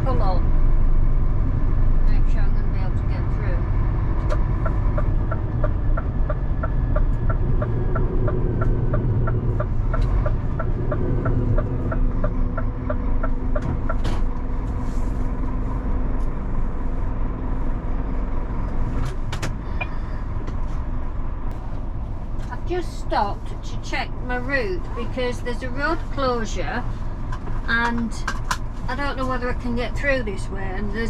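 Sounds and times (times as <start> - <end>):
lorry engine and road rumble: 0.0 - 31.0.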